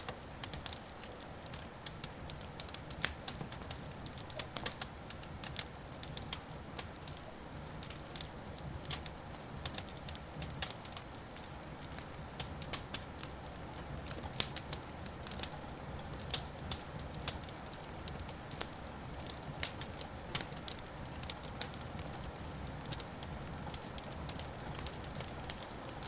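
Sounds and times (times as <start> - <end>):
fire crackling and popping: 0.0 - 26.0
low hiss of burning: 0.0 - 26.0.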